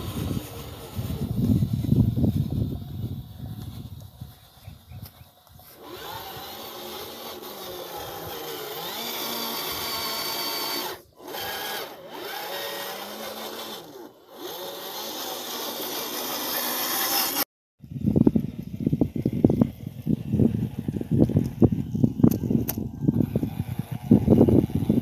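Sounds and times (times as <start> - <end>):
electric motor whining: 0.0 - 25.0.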